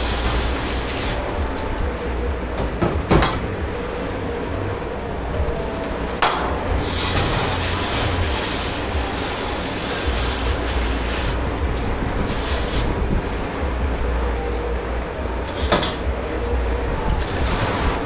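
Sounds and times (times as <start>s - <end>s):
steady low rumble: 0.0s - 18.0s
water spraying and rushing: 0.0s - 18.0s.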